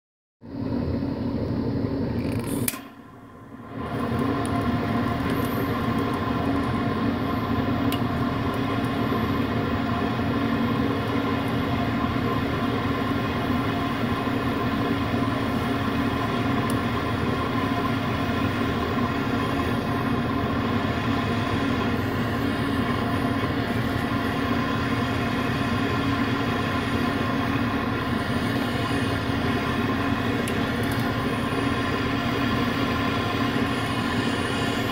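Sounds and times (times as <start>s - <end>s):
torch flame rushing: 3.5s - 34.9s.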